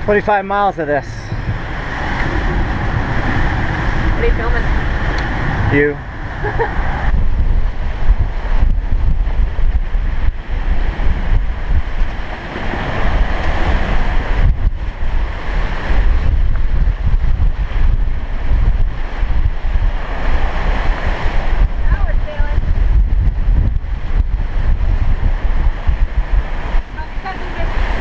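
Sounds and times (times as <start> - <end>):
rough seas and breaking waves: 0.0 - 28.0
wind buffeting microphone: 0.0 - 28.0.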